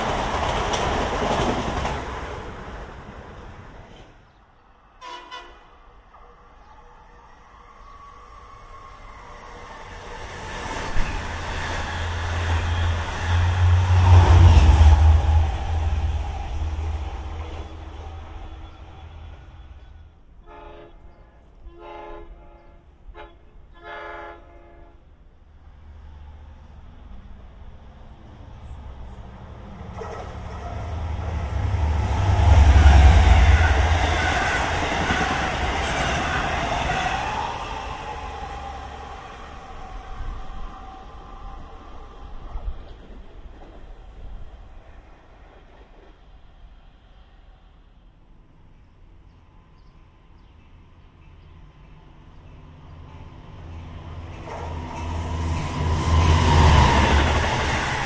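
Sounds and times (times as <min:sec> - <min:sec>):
train passing at speed: 0:00.0 - 0:58.0.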